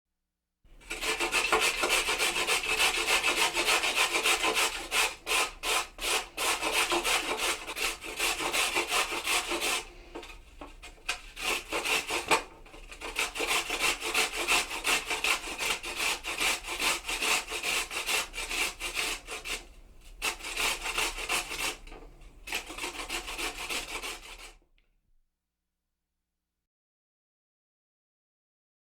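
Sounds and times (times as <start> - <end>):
carrot being grated: 0.8 - 24.6.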